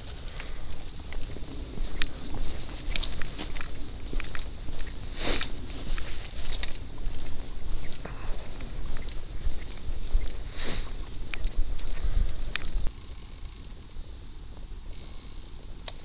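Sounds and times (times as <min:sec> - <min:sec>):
footsteps crunching dry leaves: 0:00.0 - 0:12.9
wind rumble on microphone: 0:00.0 - 0:16.0.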